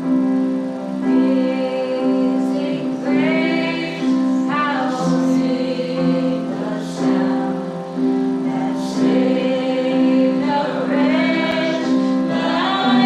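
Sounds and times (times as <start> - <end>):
sustained keyboard chords: 0.0 - 13.0
congregation singing: 0.6 - 13.0
woman singing: 1.0 - 7.8, 8.4 - 13.0.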